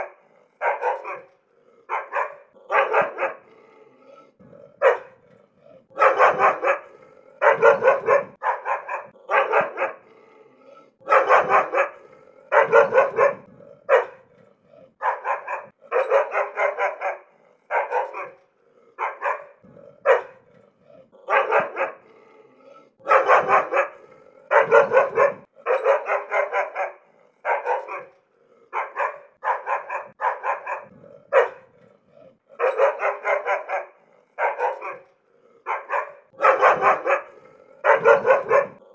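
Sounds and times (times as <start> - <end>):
dog barking angrily: 0.0 - 38.9.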